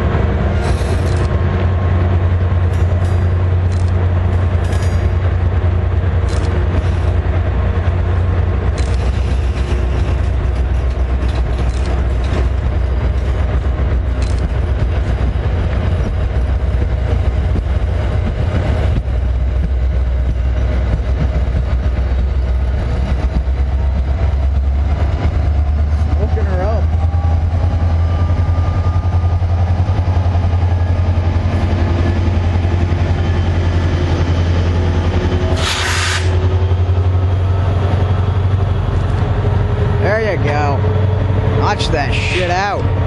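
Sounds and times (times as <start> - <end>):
train engine humming: 0.0 - 43.0.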